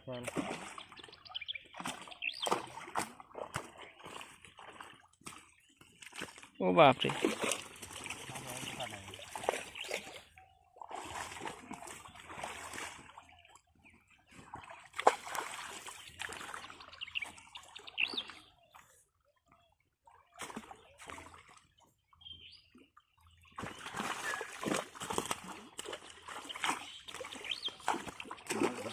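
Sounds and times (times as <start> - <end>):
water splashing and sloshing: 0.0 - 28.9.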